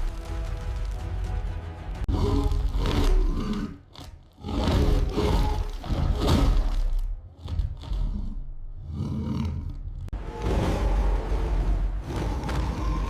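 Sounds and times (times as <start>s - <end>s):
big cat roaring and growling: 2.1s - 13.0s.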